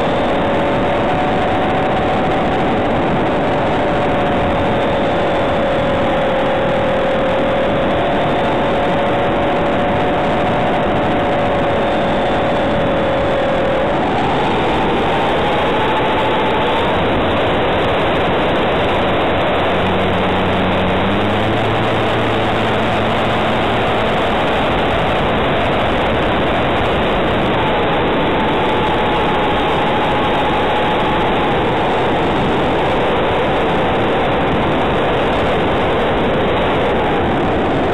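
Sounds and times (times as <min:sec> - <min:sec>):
model aeroplane motor tone: 0:00.0 - 0:37.9
wind rush and propeller noise: 0:00.0 - 0:37.9.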